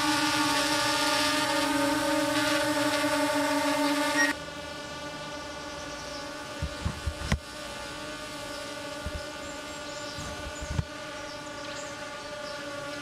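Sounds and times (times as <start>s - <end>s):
drone propeller whine: 0.0s - 12.2s.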